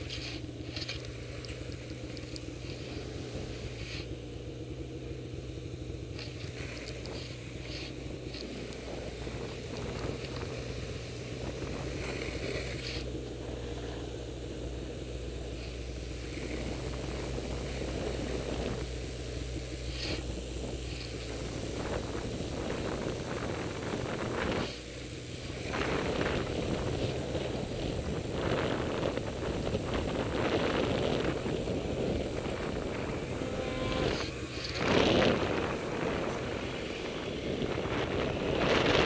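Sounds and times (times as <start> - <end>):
scraping on snow: 0.0 - 4.2, 6.1 - 14.1, 15.3 - 39.0
snowmobile engine droning: 0.0 - 39.0.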